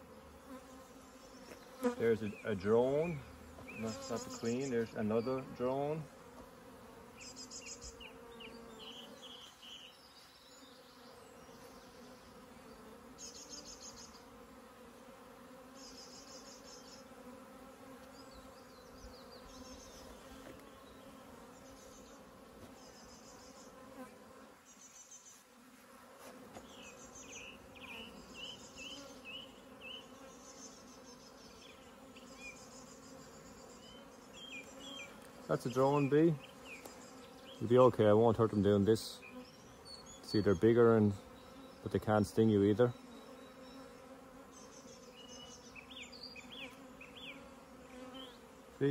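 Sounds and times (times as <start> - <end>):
bee swarm buzzing: 0.0 - 48.9
high bee chirps: 0.0 - 48.9.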